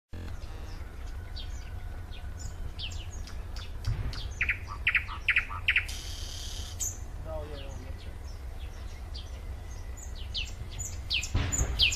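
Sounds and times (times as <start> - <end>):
low background rumble: 0.2 - 11.9
songbird singing: 0.2 - 11.9.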